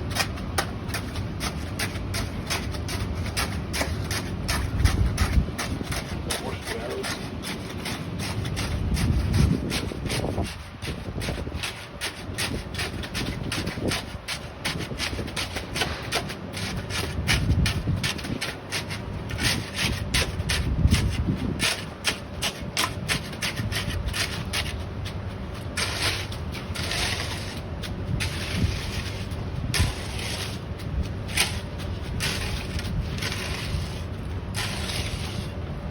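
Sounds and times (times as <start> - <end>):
screed scraping wet concrete: 0.0 - 35.9.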